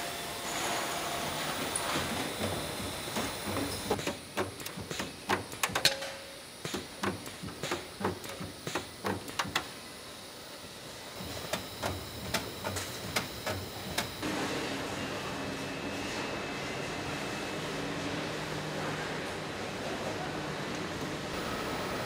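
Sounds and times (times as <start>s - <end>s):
low factory hum: 0.0s - 22.0s.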